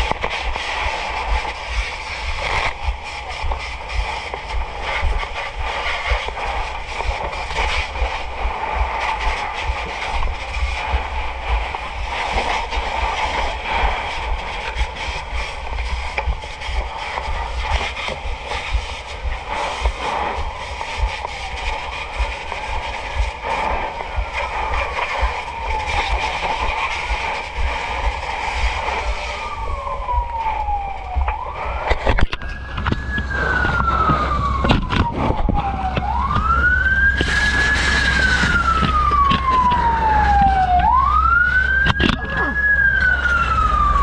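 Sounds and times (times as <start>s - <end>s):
fire truck siren wailing: 0.0s - 44.0s.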